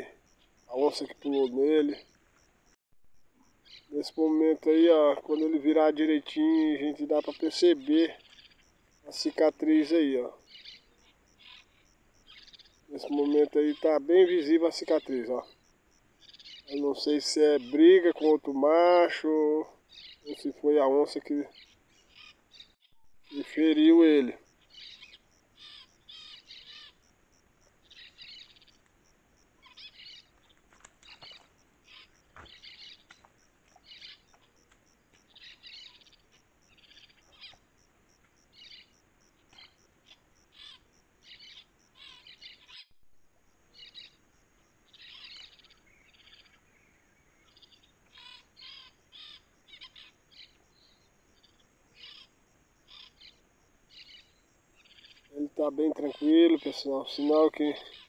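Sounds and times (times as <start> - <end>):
birds chirping and singing: 0.4 - 2.0, 3.6 - 15.5, 16.2 - 27.0, 27.8 - 28.8, 29.6 - 34.6, 35.3 - 37.6, 38.6 - 38.9, 39.5 - 42.9, 43.8 - 44.2, 44.9 - 52.3, 52.9 - 58.0.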